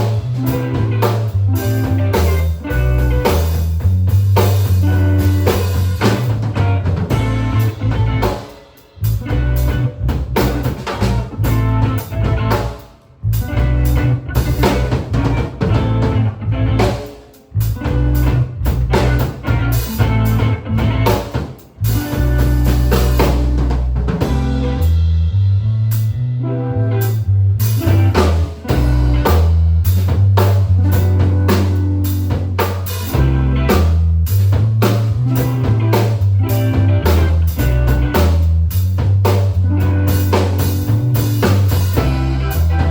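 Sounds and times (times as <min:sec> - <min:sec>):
bass line: 0:00.0 - 0:42.9
live band playing: 0:00.0 - 0:42.9.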